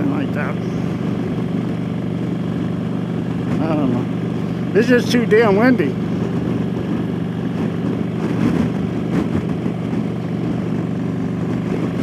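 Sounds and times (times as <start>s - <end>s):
motorcycle engine cruising: 0.0s - 12.0s
wind rushing over microphone: 0.0s - 12.0s.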